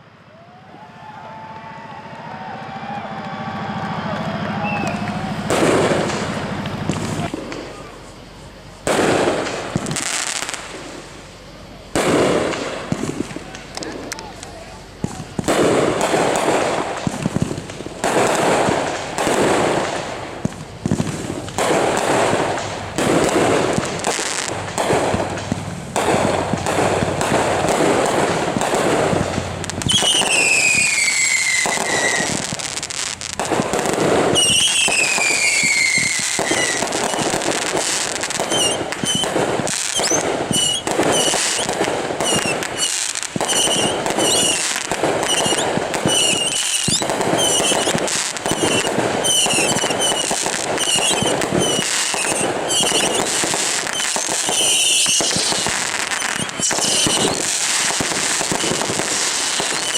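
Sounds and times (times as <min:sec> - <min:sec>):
falling firework whistles: 0:00.0 - 0:59.9
fireworks bangs and crackling: 0:00.0 - 0:59.9
short high firework whistles: 0:00.0 - 0:59.9.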